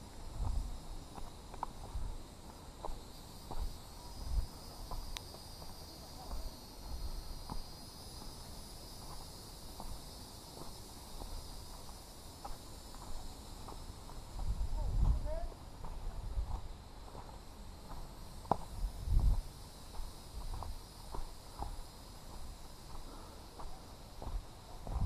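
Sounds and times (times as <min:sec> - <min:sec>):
footsteps on rocky dirt trail: 0:00.0 - 0:25.0
insects buzzing: 0:00.0 - 0:25.0.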